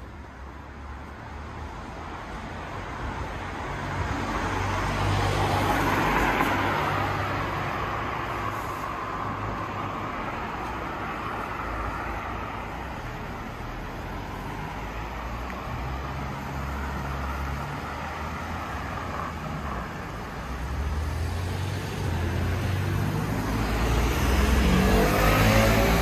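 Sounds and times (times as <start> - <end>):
tyres hissing on wet road: 4.9 - 26.0.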